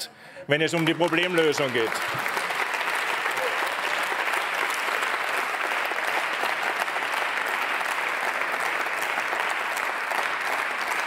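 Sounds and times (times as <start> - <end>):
crowd applause: 0.6 - 11.0.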